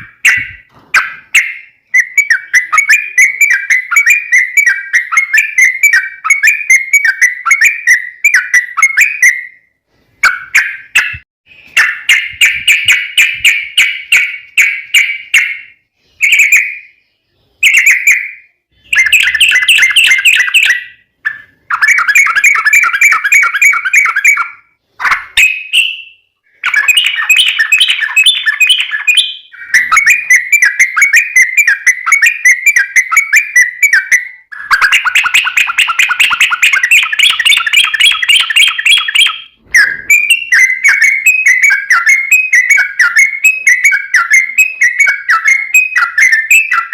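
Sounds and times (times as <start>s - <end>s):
bird rapid chattering song: 0.0s - 9.6s, 10.2s - 46.9s.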